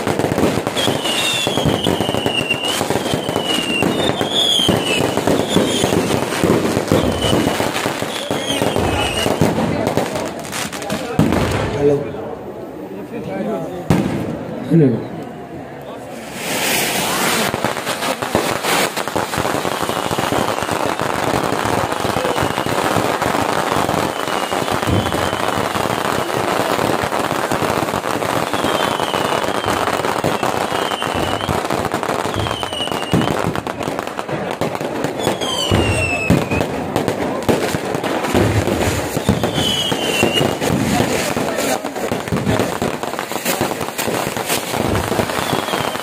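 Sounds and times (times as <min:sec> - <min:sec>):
falling firework whistles: 0:00.0 - 0:10.4, 0:16.1 - 0:46.0
fireworks crackling and popping: 0:00.0 - 0:46.0.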